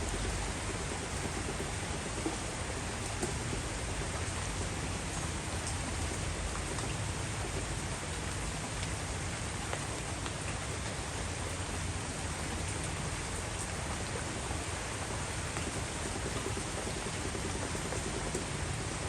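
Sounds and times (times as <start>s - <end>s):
raindrop taps: 0.0s - 11.8s, 12.4s - 19.0s
heavy rain pouring: 0.0s - 19.0s.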